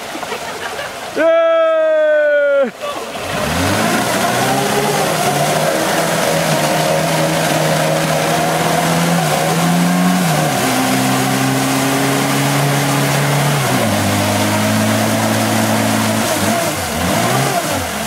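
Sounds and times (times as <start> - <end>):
off-road vehicle engine under load: 3.0 - 18.0.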